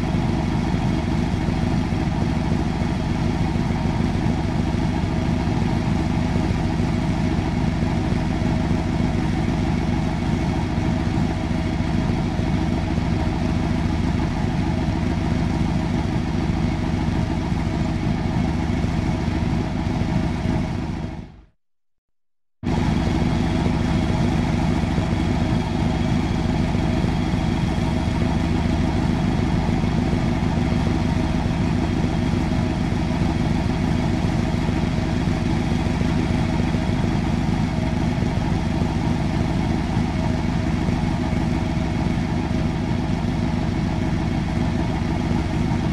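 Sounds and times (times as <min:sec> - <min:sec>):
car engine idling: 0:00.0 - 0:21.4, 0:22.7 - 0:45.9.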